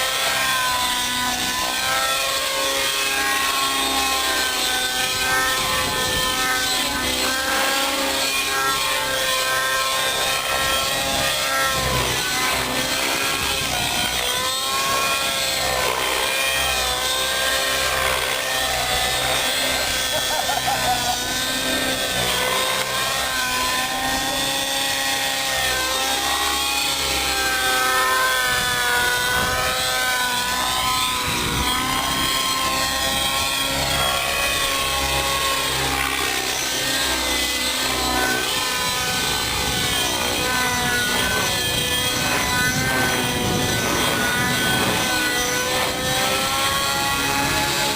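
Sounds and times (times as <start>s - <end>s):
rc helicopter engine whine: 0.0s - 47.9s.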